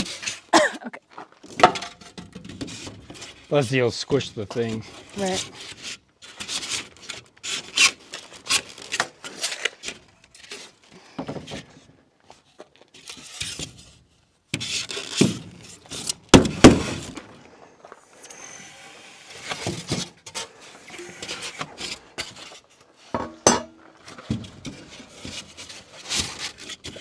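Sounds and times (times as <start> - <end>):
foam panels rubbing and scraping: 0.0 - 0.5, 1.3 - 17.6, 18.5 - 23.2, 23.8 - 27.0.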